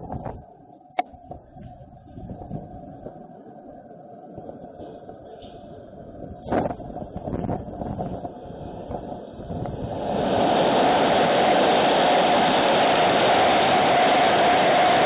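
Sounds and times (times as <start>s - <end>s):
wind roaring over microphone: 0.0s - 15.0s.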